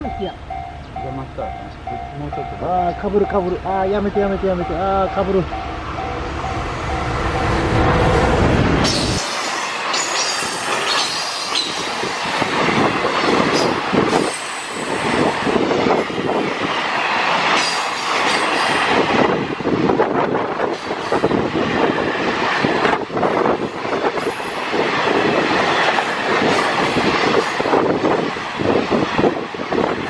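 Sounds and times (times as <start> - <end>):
train wheels rolling on rails: 0.0 - 30.0.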